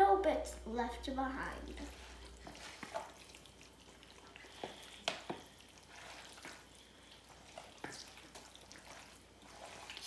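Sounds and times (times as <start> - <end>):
chicken squelching in marinade: 1.8 - 10.0.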